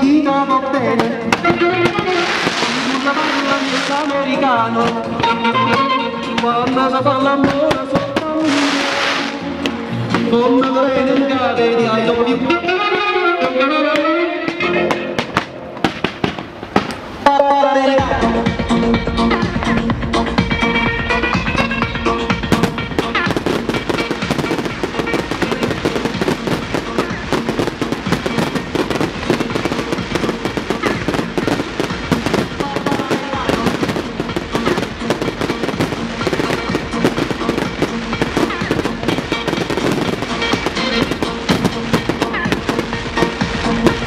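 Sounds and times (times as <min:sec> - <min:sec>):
fireworks bangs and crackles: 0:00.0 - 0:11.3, 0:13.4 - 0:17.2, 0:22.3 - 0:44.0
music playing: 0:00.0 - 0:44.0.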